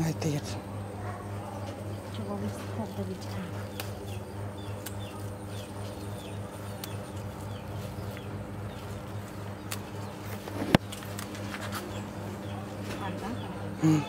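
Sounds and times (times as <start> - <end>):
steady low hum: 0.0 - 14.0
small birds chirping: 0.2 - 14.0.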